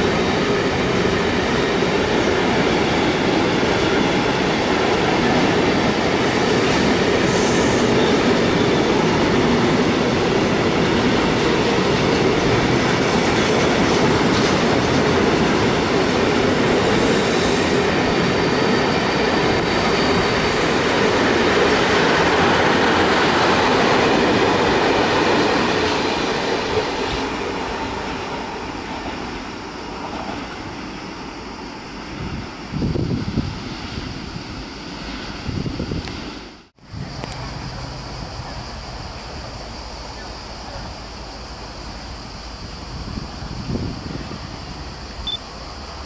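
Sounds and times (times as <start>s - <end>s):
freight train rumbling past: 0.0s - 46.0s.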